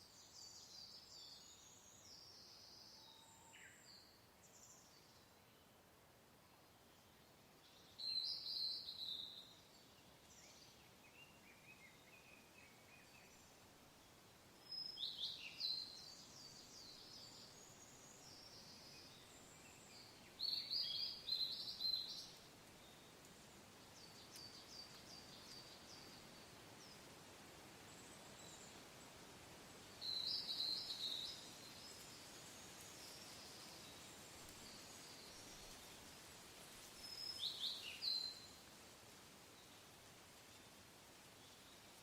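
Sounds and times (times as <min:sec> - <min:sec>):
soft wind hiss: 0:00.0 - 0:42.0
songbird chirping: 0:00.0 - 0:42.0.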